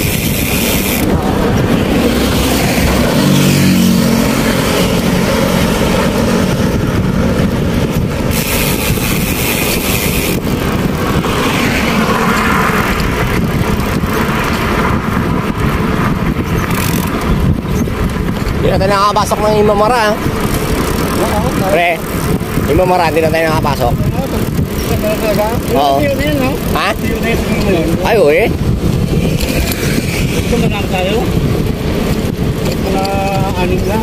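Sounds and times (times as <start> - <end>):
motorcycle engine hum: 0.0 - 34.0
road noise: 0.0 - 34.0
wind rush: 0.0 - 34.0.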